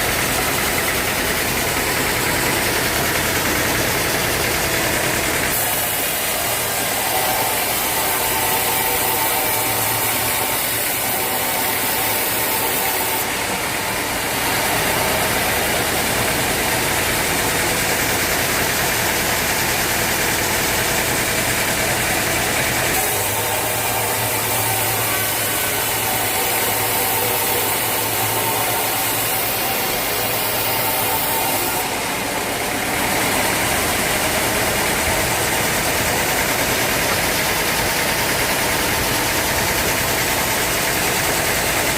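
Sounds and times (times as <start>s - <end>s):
motor hum: 0.0s - 41.9s
sawmill machinery running: 0.0s - 41.9s.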